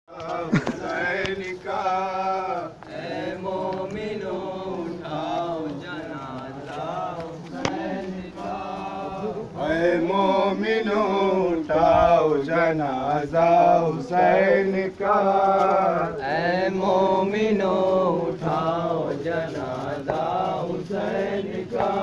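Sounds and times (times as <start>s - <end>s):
men chanting a lament: 0.1s - 22.0s.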